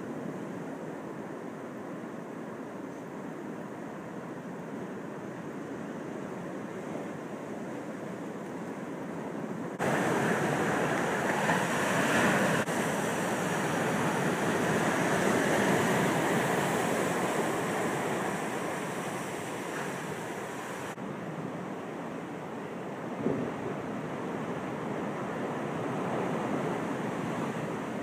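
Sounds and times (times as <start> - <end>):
ocean surf on rocky shore: 3.5 - 28.0.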